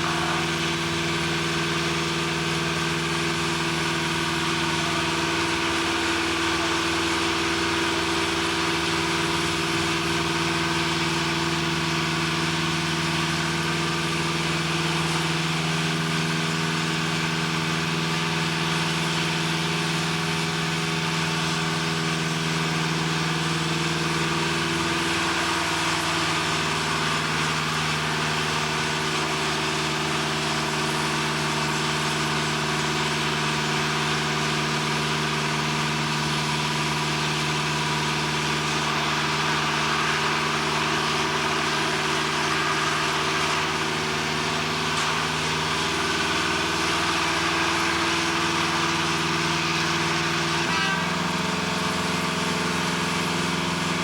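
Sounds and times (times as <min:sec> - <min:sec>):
heavy engine idling: 0:00.0 - 0:54.0.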